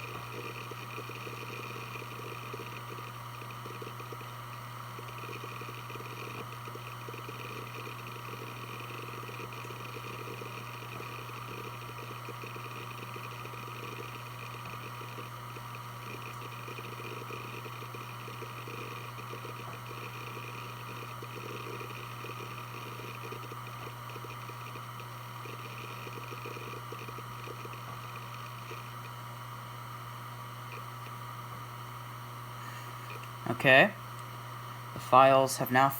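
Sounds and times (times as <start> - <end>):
hard drive spinning hum: 0.0 - 35.9.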